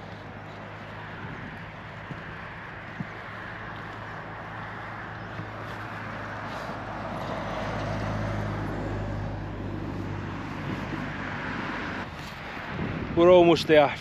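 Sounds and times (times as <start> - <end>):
bicycle road noise rumbling: 0.0 - 14.0
wind on microphone: 0.0 - 14.0.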